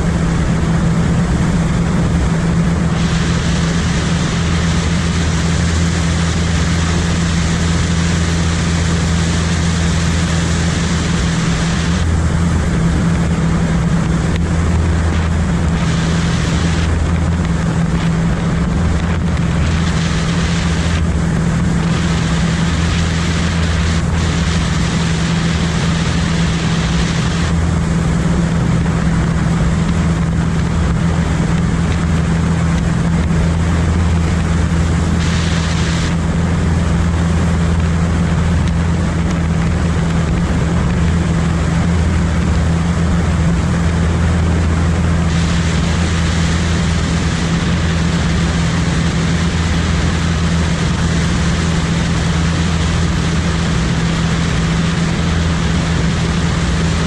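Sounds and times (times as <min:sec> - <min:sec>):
propeller aircraft drone: 0:00.0 - 0:57.0.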